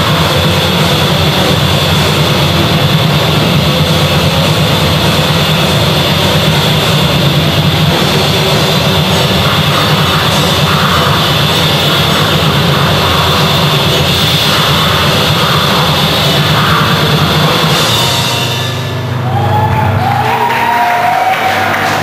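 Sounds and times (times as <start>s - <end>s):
metal band playing live: 0.0s - 20.8s.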